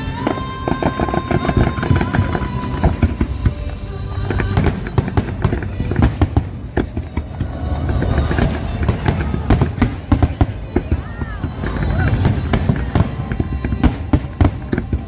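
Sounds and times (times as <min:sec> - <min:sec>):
fireworks bangs and crackles: 0:00.0 - 0:15.0
low rumble: 0:00.0 - 0:15.0
music playing: 0:00.0 - 0:15.0.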